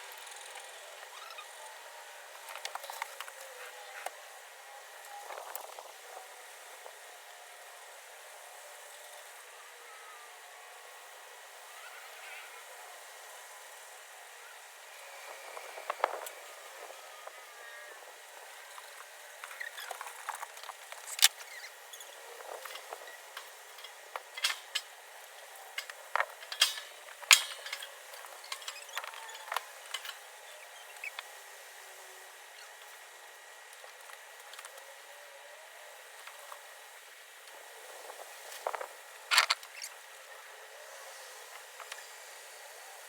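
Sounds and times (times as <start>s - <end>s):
faint hiss: 0.0s - 43.0s.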